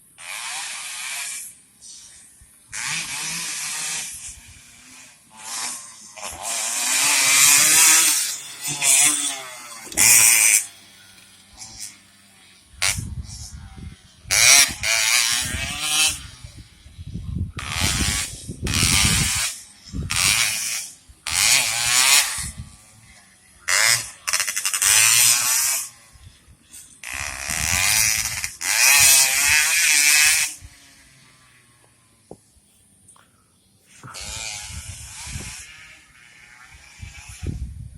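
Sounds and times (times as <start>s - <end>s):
racing motorcycle engines revving: 0.0s - 32.5s, 33.8s - 37.9s.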